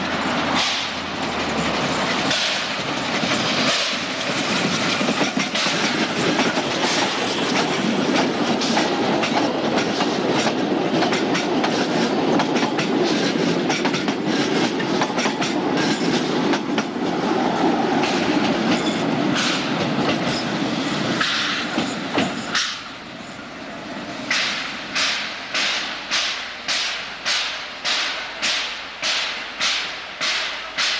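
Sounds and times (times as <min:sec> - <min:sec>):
train wheels clattering: 0:00.0 - 0:23.0, 0:24.2 - 0:30.9.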